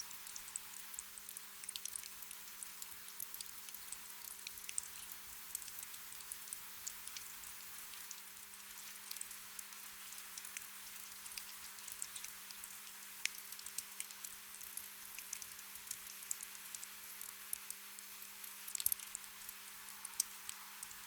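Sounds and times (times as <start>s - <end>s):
faint steady hum: 0.0s - 21.0s
gentle rain hiss: 0.0s - 21.0s
raindrops ticking: 3.2s - 21.0s.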